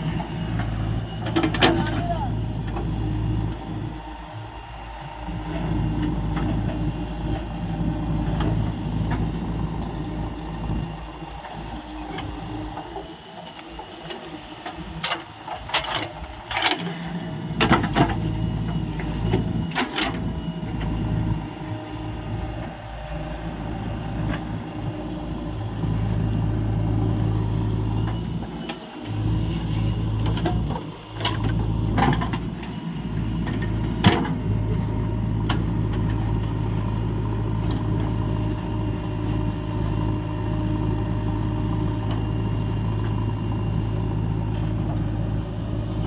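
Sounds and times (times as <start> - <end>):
backhoe loader engine and hydraulics: 0.0 - 46.0.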